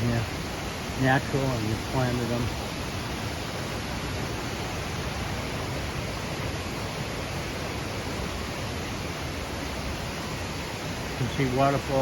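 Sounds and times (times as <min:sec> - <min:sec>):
rush of flowing water: 0:00.0 - 0:12.0.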